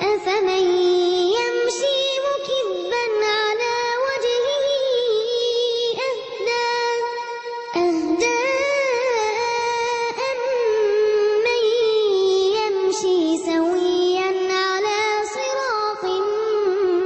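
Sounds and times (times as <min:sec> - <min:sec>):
girl chanting recitation: 0:00.0 - 0:17.0.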